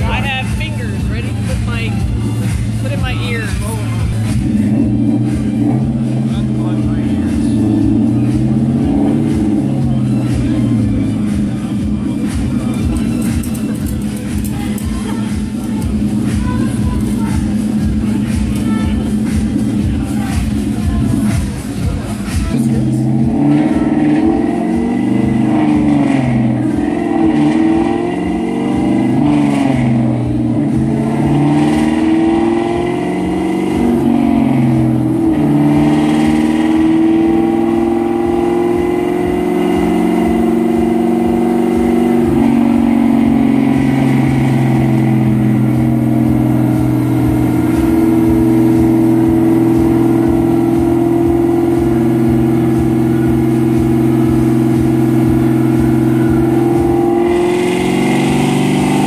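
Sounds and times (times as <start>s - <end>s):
loud car engine revving: 0.0s - 59.0s.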